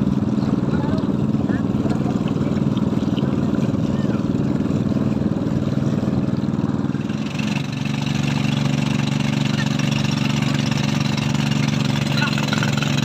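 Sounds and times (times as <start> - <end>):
motorboat engine running: 0.0 - 13.0
water splashing along hull: 0.0 - 13.0.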